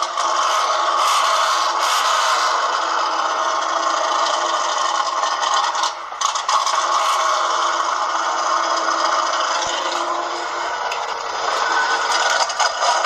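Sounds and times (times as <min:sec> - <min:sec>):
truck engine idling with rattling: 0:00.0 - 0:13.0.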